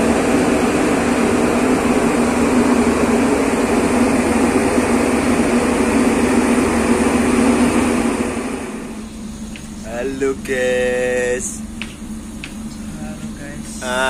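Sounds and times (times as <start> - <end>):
ship diesel engines droning: 0.0 - 14.0.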